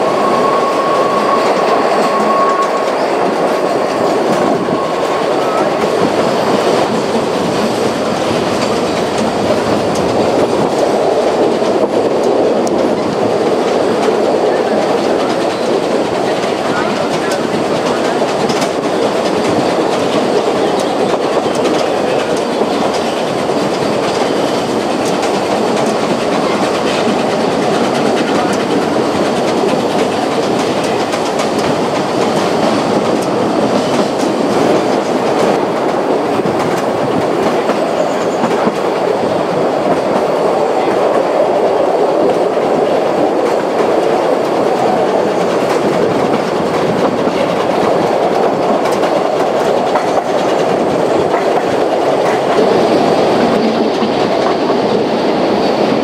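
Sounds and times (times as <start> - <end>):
train wheels rumbling and rattling: 0.0 - 56.0.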